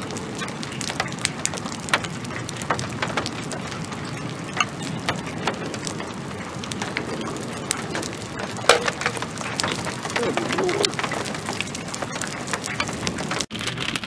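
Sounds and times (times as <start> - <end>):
drops ticking on surfaces: 0.0 - 13.5
rain falling: 0.0 - 14.0.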